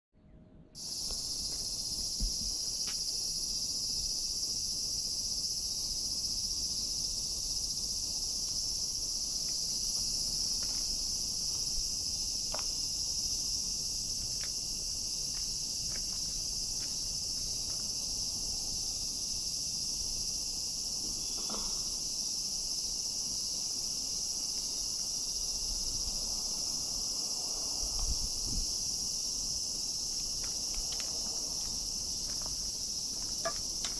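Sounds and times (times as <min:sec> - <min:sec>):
insects droning: 0:00.8 - 0:33.9.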